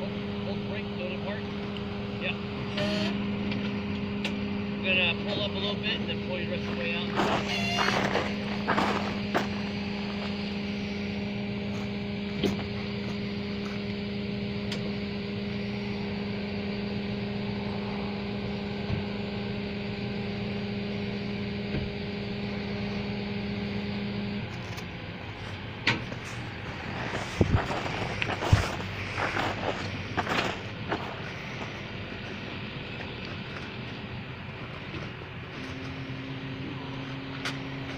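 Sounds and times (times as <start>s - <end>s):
tow truck engine running: 0.0s - 37.9s.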